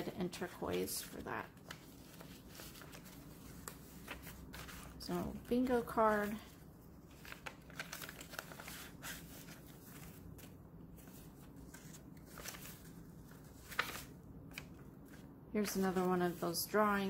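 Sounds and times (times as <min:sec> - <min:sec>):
paper pages rustling: 0:00.3 - 0:17.0.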